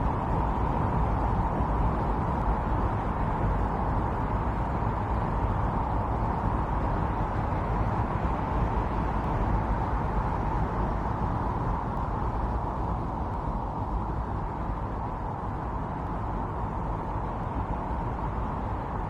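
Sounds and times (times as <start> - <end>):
strong blizzard wind: 0.0 - 19.0.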